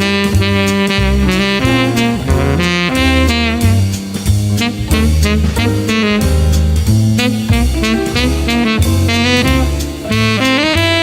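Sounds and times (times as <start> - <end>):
bass line: 0.0 - 11.0
drums: 0.0 - 11.0
saxophone melody: 0.0 - 11.0.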